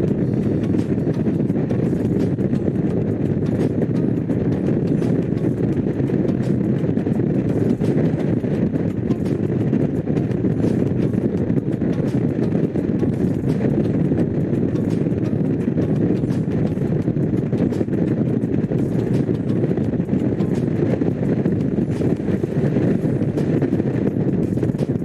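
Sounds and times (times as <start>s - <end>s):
motorcycle engine cruising: 0.0s - 25.0s
wind and road noise: 0.0s - 25.0s.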